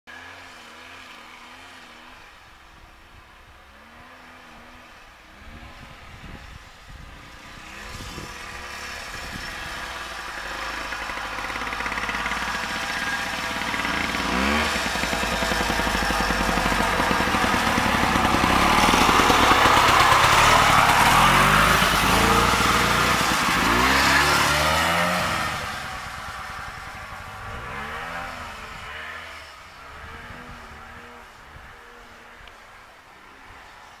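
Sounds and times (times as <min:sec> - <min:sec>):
snowmobile engine revving past: 0:03.7 - 0:34.0.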